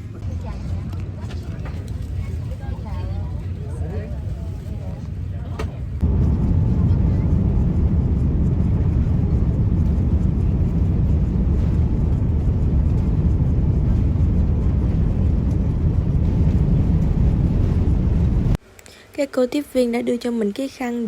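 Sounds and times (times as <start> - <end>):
airliner cabin drone: 0.0 - 19.1.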